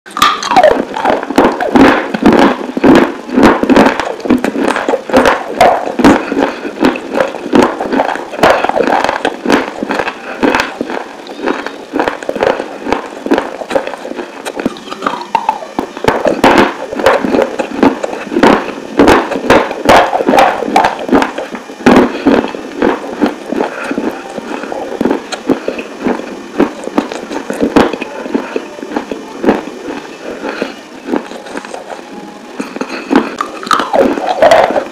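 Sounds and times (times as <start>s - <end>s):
crunchy chewing: 0.2s - 34.9s.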